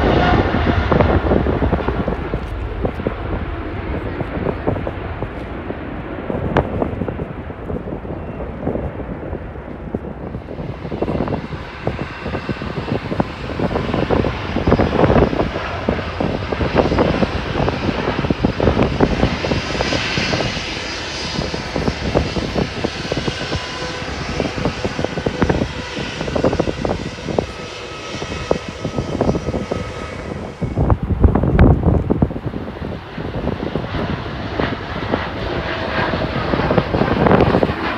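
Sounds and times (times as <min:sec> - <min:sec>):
crackling jet rumble: 0:00.0 - 0:37.9.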